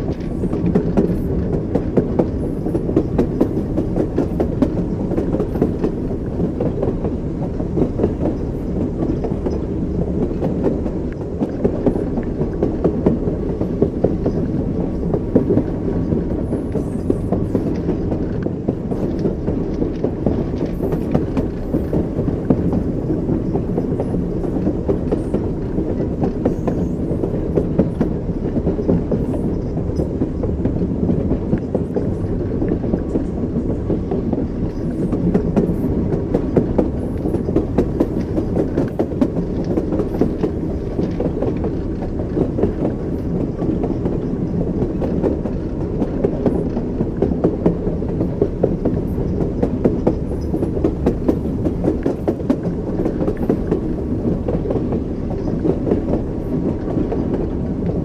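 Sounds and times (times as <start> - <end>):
train wheels over rail joints: 0.0 - 58.0.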